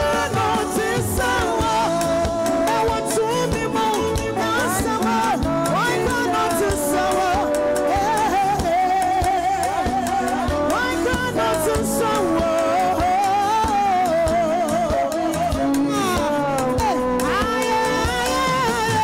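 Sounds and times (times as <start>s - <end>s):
live band playing: 0.0s - 19.0s
woman singing into a microphone: 0.0s - 19.0s.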